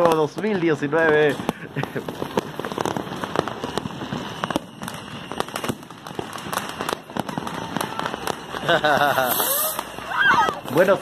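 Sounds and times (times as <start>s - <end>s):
fireworks pops and cracks: 0.0s - 11.0s.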